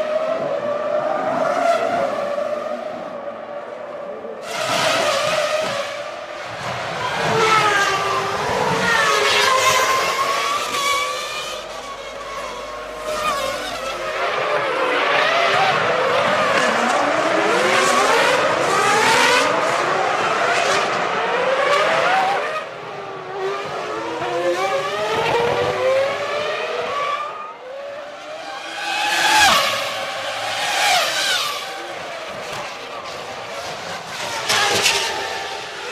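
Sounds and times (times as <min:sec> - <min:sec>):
racing car engines revving: 0:00.0 - 0:35.9
racing car passing close by: 0:04.4 - 0:35.9.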